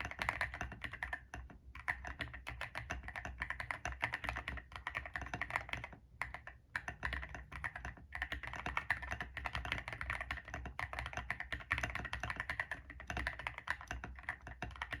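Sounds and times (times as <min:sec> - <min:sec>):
fast keyboard typing: 0:00.0 - 0:15.0.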